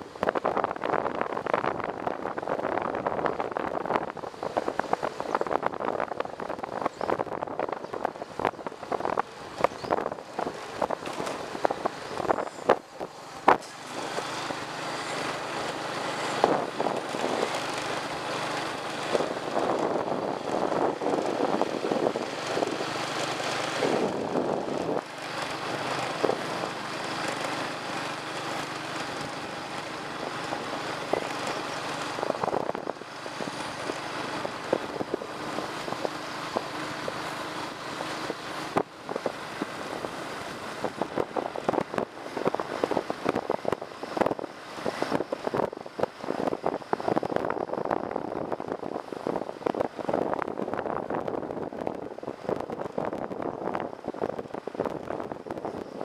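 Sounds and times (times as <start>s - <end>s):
tyres and air rushing: 0.0s - 55.8s.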